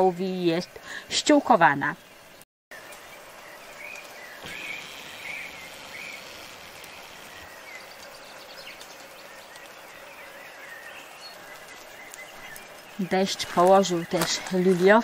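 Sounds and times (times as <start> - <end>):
bird chirping: 2.8 - 14.8.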